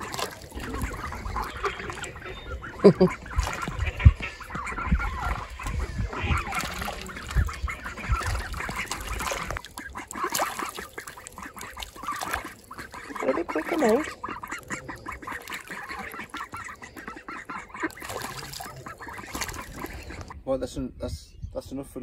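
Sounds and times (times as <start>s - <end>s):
ducks quacking: 0.0s - 20.4s.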